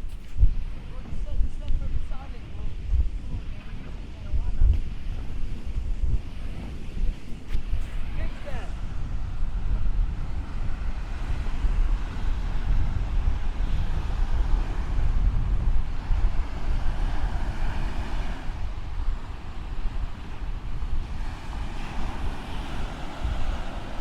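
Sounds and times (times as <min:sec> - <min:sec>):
surf washing on shore: 0:00.0 - 0:24.0
wind buffeting microphone: 0:00.0 - 0:24.0.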